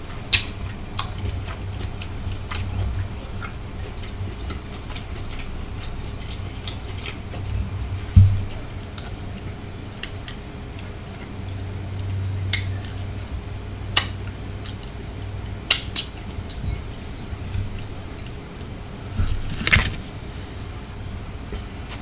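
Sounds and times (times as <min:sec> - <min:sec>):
chewing with wet smacks: 0:00.0 - 0:18.7
low steady hum: 0:00.0 - 0:22.0.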